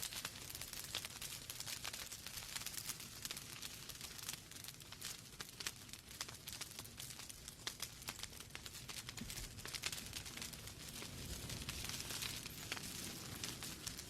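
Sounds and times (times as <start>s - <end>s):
logs crackling and popping: 0.0s - 14.0s
soft fire hiss: 0.0s - 14.0s.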